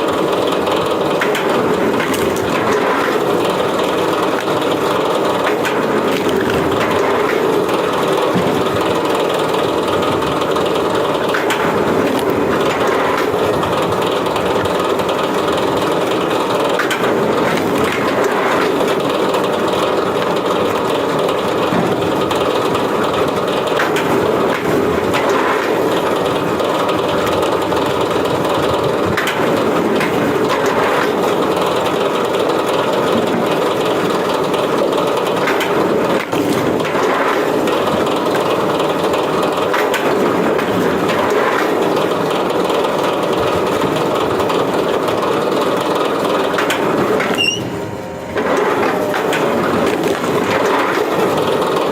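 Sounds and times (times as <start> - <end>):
wood-processing machine running: 0.0 - 51.9
wood cracking and splitting: 0.8 - 47.4, 48.4 - 51.9.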